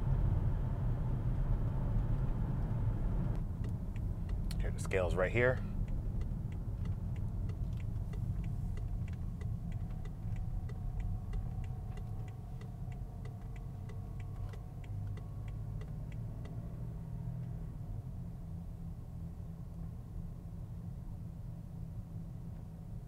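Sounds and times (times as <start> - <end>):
car engine rumble: 0.0 - 23.0
road noise: 0.0 - 23.0
turn signal ticking: 0.3 - 20.4.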